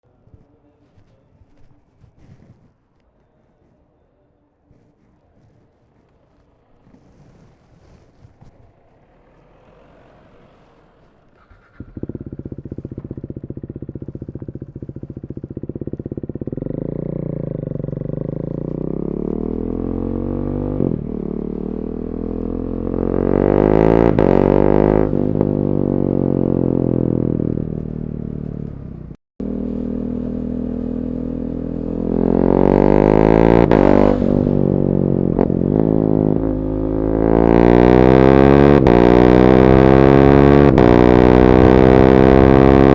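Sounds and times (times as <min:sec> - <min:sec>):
motorcycle engine revving: 0:06.1 - 0:42.9.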